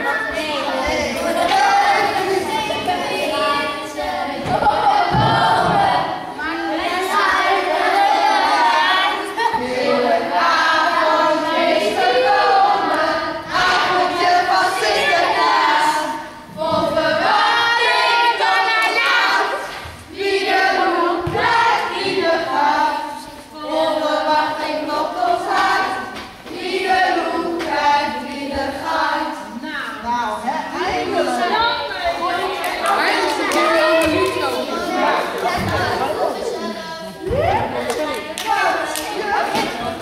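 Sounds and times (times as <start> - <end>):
girls singing together: 0.0 - 40.0.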